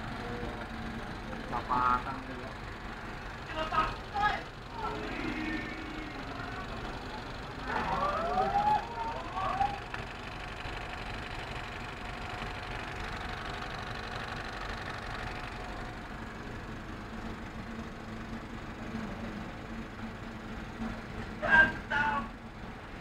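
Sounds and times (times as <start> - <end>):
film projector whirring: 0.0 - 23.0.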